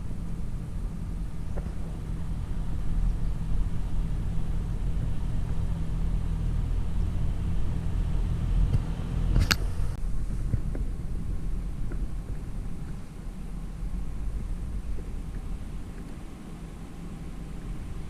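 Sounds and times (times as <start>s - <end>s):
heavy vehicle engine rumbling: 0.0s - 18.0s.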